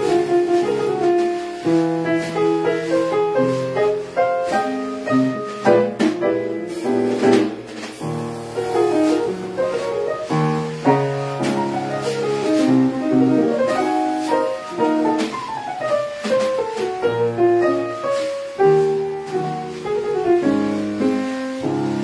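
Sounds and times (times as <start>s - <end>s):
drum kit keeping time: 0.0s - 22.0s
piano jazz solo: 0.0s - 22.0s.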